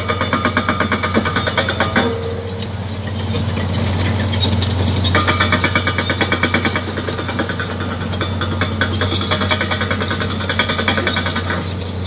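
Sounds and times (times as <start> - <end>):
drilling rig engine droning: 0.0 - 12.0
pneumatic rock drill hammering: 0.0 - 12.0.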